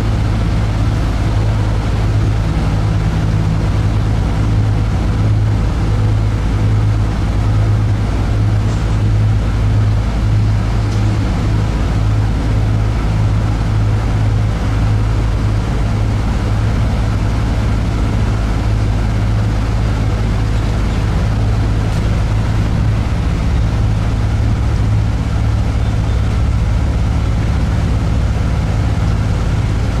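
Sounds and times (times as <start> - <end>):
bus engine droning: 0.0 - 30.0.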